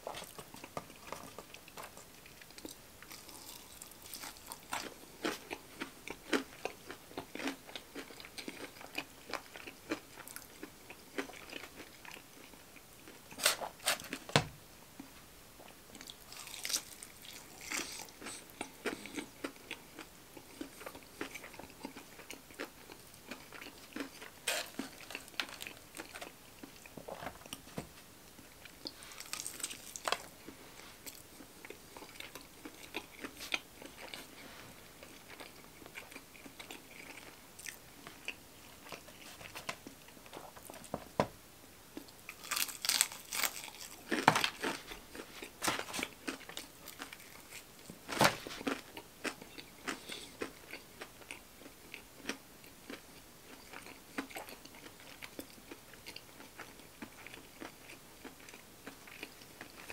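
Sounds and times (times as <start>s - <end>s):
crunching and chewing fried chicken: 0.0s - 14.3s, 15.6s - 27.7s, 28.4s - 40.9s, 41.9s - 59.9s.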